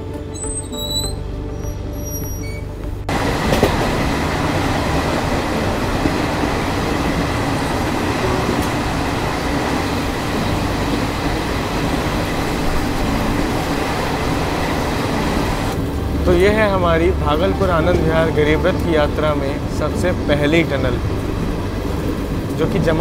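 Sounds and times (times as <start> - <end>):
music: 0.0 - 23.0
train wheels rumbling on rails: 0.0 - 23.0.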